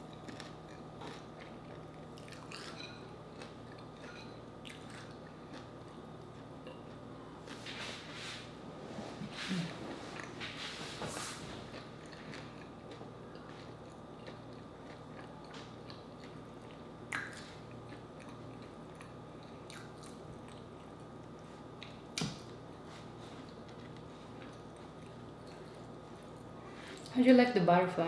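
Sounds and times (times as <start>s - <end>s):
person chewing food: 0.0s - 7.6s, 9.9s - 10.8s, 11.4s - 27.1s
faint steady hum: 0.0s - 28.0s.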